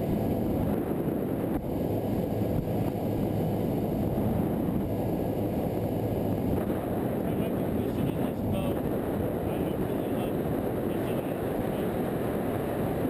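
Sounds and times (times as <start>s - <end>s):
boat engine drone: 0.0s - 13.0s
hull and wind noise: 0.0s - 13.0s.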